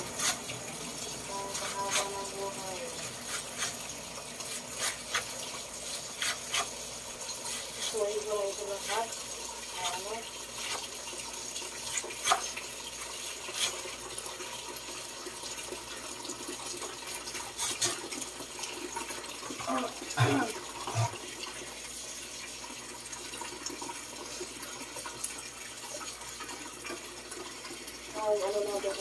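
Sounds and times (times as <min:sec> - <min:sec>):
tap water running into sink: 0:00.0 - 0:29.0.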